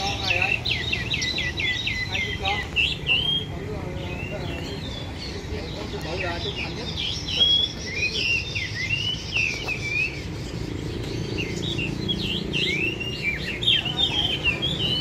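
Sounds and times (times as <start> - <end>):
songbirds whistling: 0.0 - 15.0.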